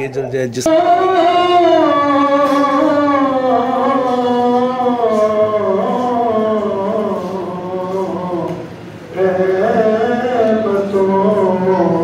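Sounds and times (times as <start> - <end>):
person singing a long note: 0.7 - 12.0.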